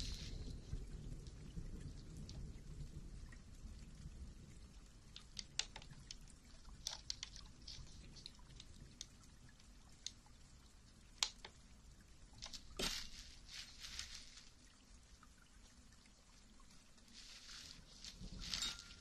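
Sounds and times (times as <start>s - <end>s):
crackle: 0.0s - 11.7s, 12.3s - 19.0s.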